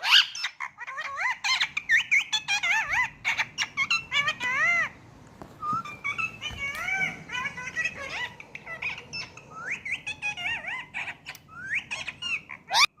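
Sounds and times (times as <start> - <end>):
parakeet chattering: 0.0 - 5.0, 5.8 - 13.0.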